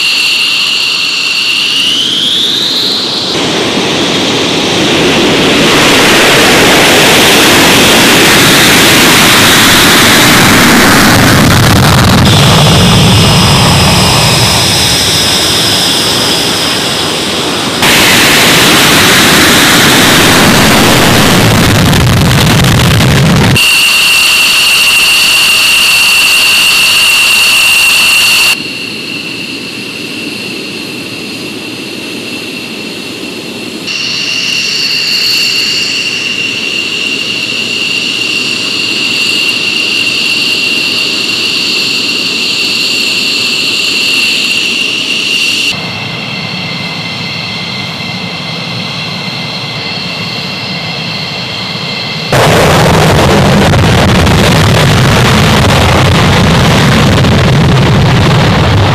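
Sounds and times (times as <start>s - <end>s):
jet engines high-pitched whine: 0.0s - 58.9s
jet engines rumbling roar: 0.0s - 58.9s.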